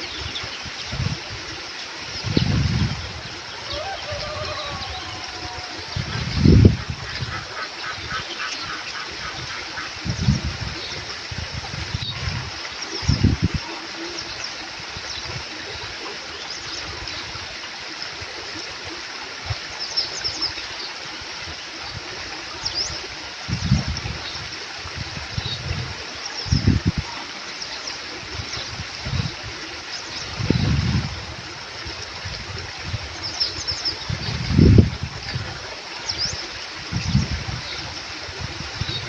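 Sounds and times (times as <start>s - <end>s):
stream trickling: 0.0s - 39.0s.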